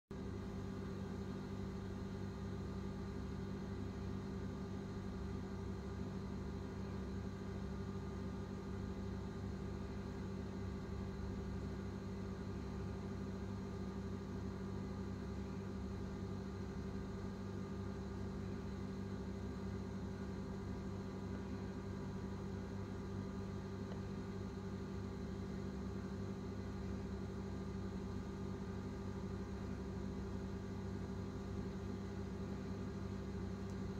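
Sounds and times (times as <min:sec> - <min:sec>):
low electrical hum: 0:00.1 - 0:33.9.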